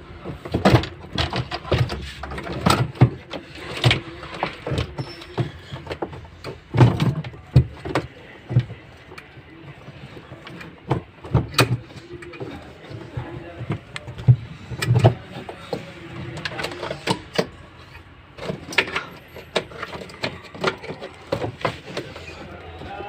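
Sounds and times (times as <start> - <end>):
motor parts knocking and scraping: 0.2 - 23.0.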